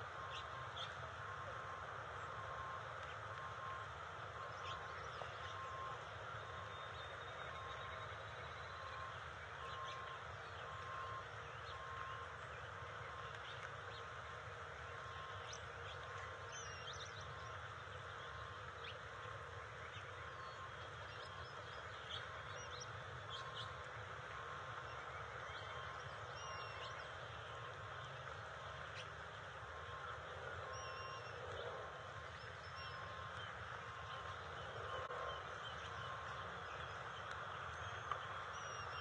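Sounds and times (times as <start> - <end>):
faint pulsing tone: 0.0 - 39.0
steady background hiss: 0.0 - 39.0.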